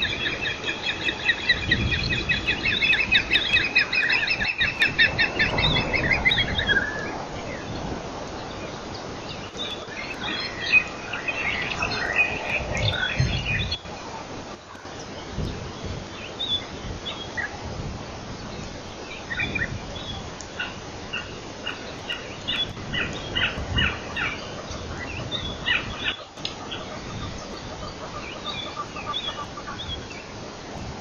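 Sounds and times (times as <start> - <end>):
birds chirping: 0.0 - 31.0
low outdoor rumble: 0.0 - 31.0.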